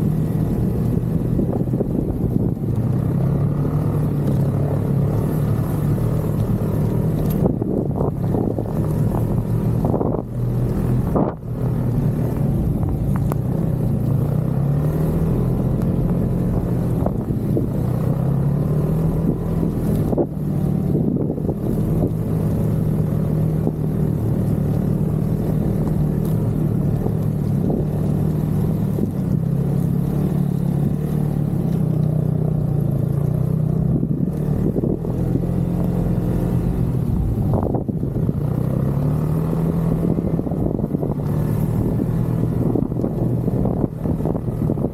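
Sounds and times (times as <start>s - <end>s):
snowmobile engine running: 0.0s - 44.9s.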